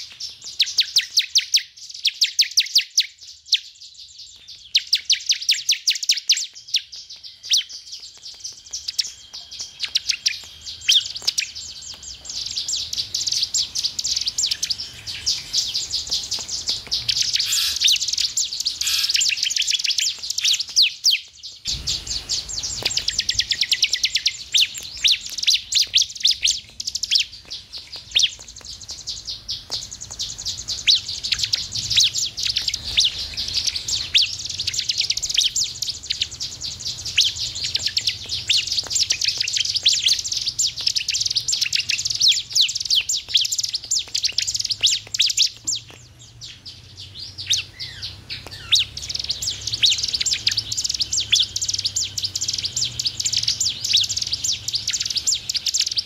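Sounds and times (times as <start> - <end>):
bird singing high sharp chips: 0.0 - 56.0.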